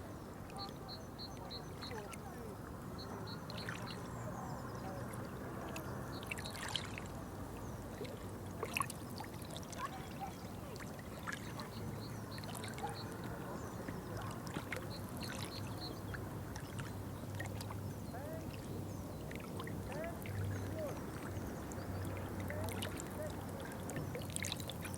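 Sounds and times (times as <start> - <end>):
water trickling and splashing: 0.0 - 24.9.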